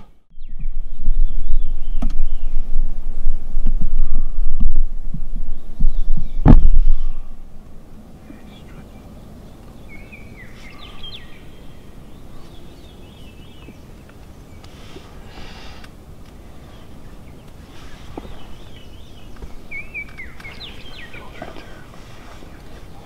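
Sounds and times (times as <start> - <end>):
songbirds singing: 0.0 - 3.0, 5.3 - 23.0.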